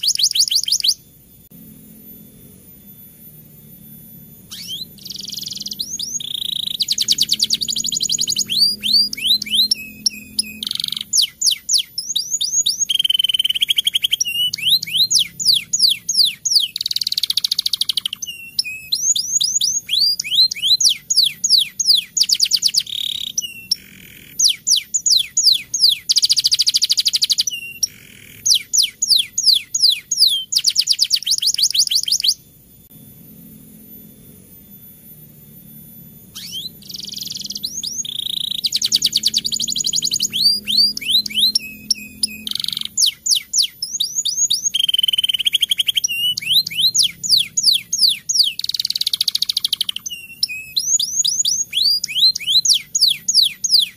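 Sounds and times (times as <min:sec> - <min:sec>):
canary singing: 0:00.0 - 0:53.9.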